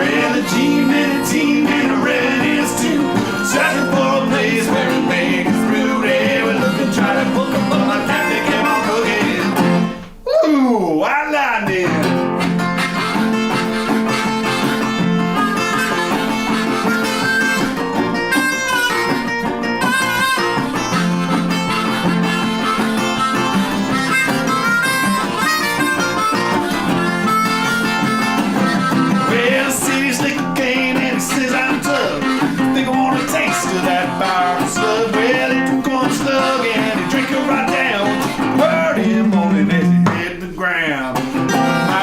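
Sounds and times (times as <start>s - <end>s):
harmonica solo with bending notes: 0.0s - 10.1s, 12.1s - 39.4s, 41.3s - 42.0s
guitar accompaniment: 0.0s - 10.6s, 11.6s - 42.0s.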